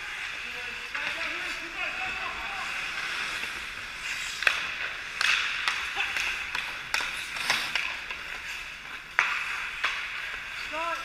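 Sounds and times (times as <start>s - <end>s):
skate blades scraping ice: 0.0s - 11.0s
hockey sticks clacking on puck: 0.1s - 11.0s.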